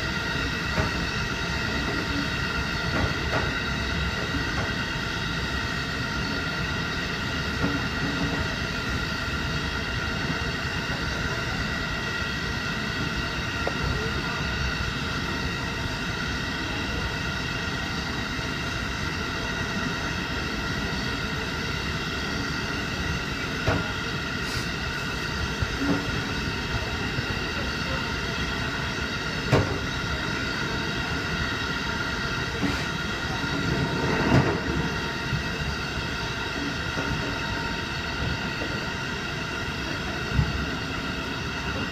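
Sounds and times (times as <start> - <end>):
electric train running: 0.0 - 41.9.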